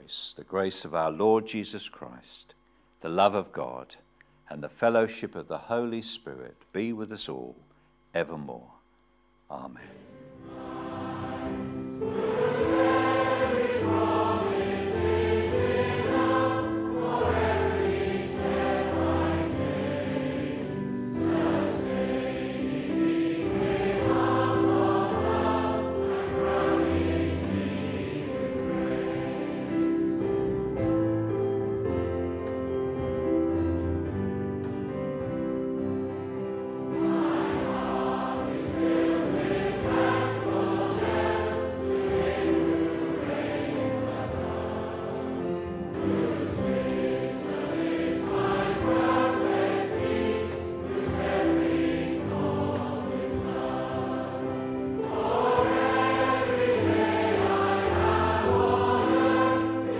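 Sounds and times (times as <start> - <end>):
choir singing over held chords: 9.6 - 59.9.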